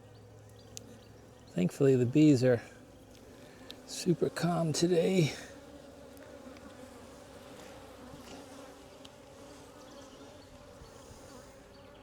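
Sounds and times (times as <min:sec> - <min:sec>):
honey bees humming: 0:00.0 - 0:12.0.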